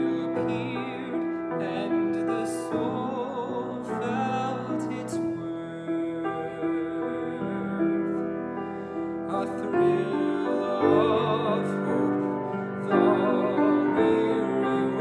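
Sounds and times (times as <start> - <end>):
classical solo singing with vibrato: 0.0 - 15.0
piano accompaniment: 0.0 - 15.0.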